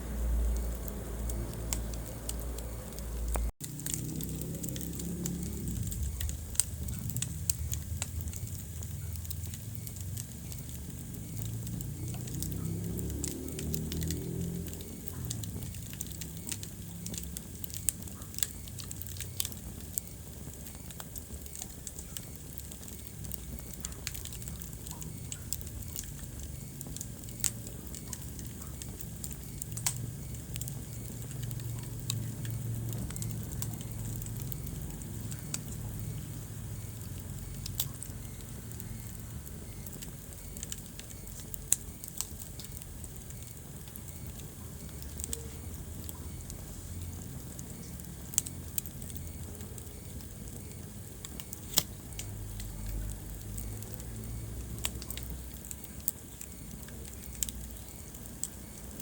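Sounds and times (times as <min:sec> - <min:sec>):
low steady rumble: 0:00.0 - 0:59.0
wood fire crackling: 0:00.0 - 0:59.0.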